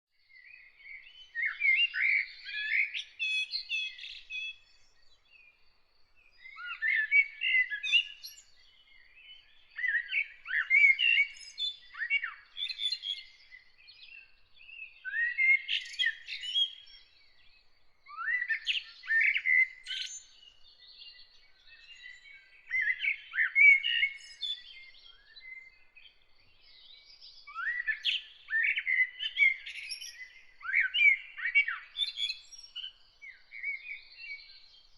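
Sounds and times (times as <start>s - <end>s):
songbird chirping song: 0.1s - 34.9s.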